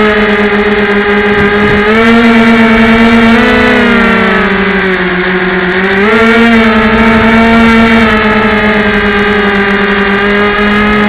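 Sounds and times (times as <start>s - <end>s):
model airplane motor whine: 0.0s - 11.0s.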